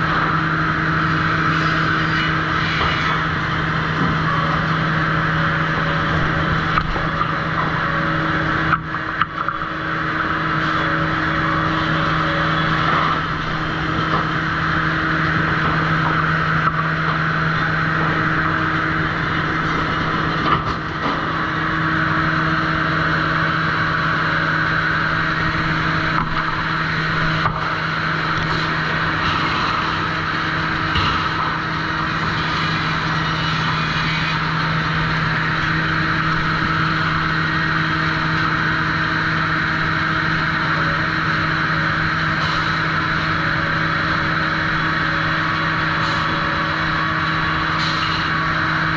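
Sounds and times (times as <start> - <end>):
saw machinery humming and whirring: 0.0 - 48.9.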